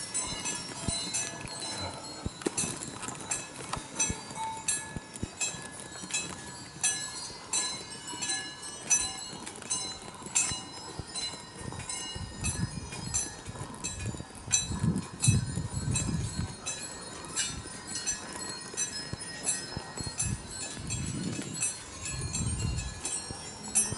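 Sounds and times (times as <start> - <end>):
small metal bells tinkling: 0.0 - 23.9.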